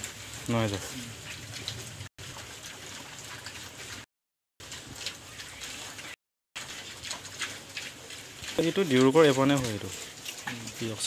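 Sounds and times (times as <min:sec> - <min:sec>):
pigs snuffling and chewing feed: 0:00.0 - 0:11.0.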